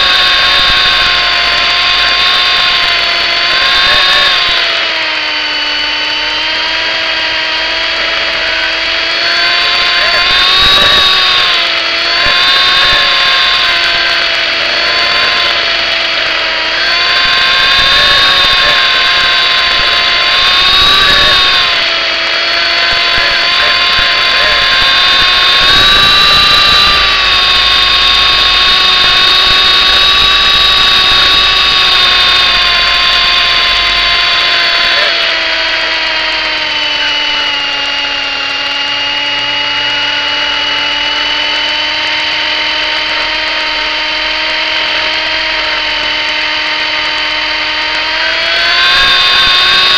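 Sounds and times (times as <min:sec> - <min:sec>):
rc helicopter motor whine: 0:00.0 - 0:49.9.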